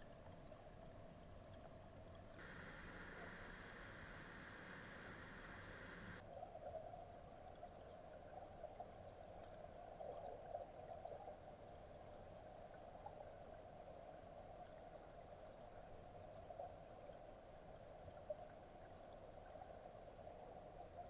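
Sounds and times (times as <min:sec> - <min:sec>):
mountain stream flowing: 0:00.0 - 0:21.0.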